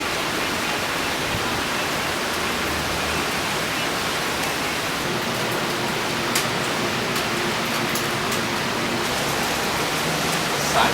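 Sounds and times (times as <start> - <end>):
heavy rain: 0.0 - 10.9.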